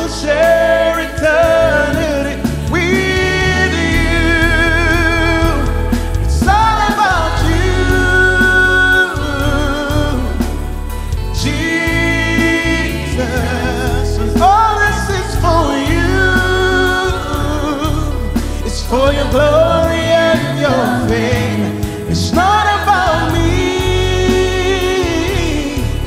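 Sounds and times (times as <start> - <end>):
gospel singers: 0.0 - 26.0
live band playing: 0.0 - 26.0
steady bass: 0.0 - 26.0.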